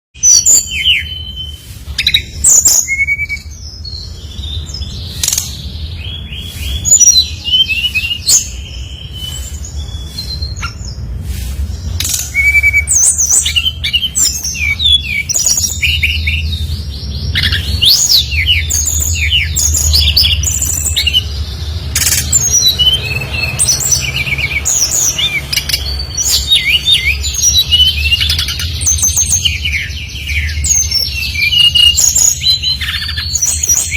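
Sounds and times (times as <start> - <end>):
songbird singing trills: 0.2 - 33.9.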